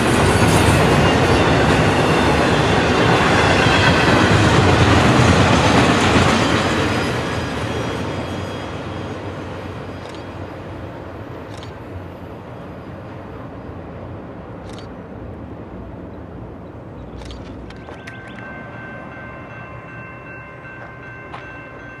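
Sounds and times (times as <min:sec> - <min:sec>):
freight train rumble: 0:00.0 - 0:22.0.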